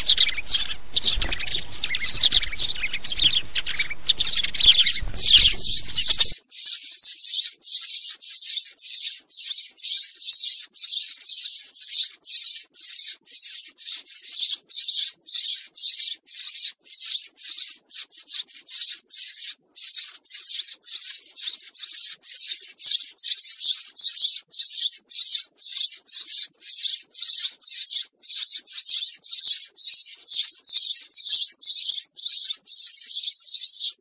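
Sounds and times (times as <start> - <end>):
house sparrow chirping: 0.0 - 34.0.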